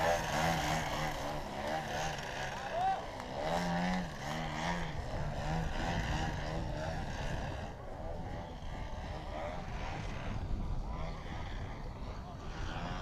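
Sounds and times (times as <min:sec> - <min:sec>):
model airplane engine: 0:00.0 - 0:13.0.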